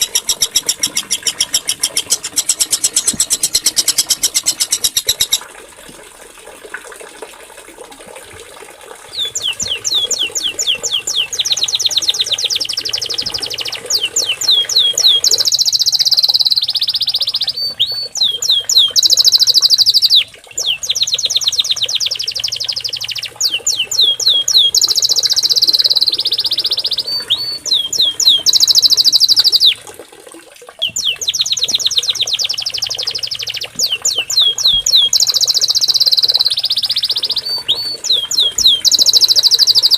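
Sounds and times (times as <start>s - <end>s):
songbird singing trills: 0.0s - 5.4s, 9.1s - 29.8s, 30.8s - 39.9s.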